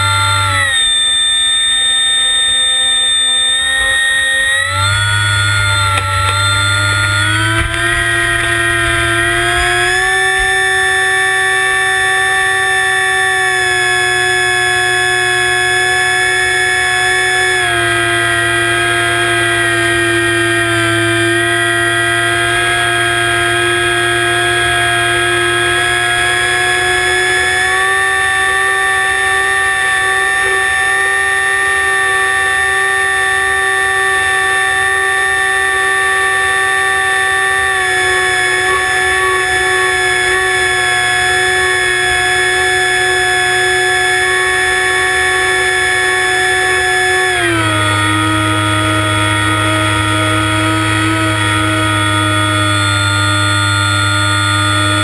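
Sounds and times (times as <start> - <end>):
electric motor and propeller whine: 0.0 - 55.0.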